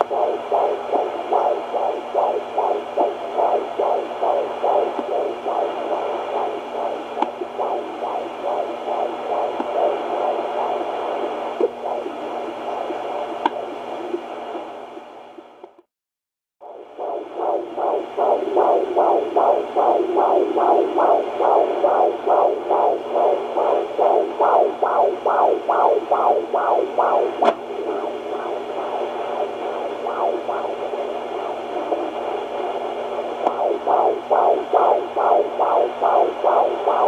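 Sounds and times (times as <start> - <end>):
whooshing heartbeat pulse: 0.0 - 15.5, 16.6 - 37.0
steady hum: 0.0 - 15.8, 16.6 - 37.0.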